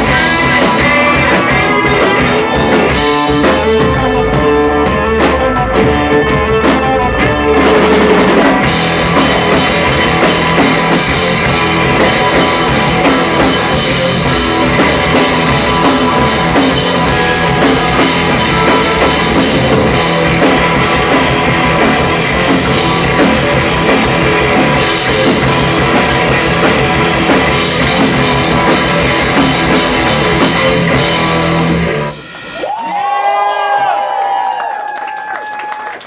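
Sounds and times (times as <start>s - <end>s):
live rock band playing: 0.0s - 34.1s.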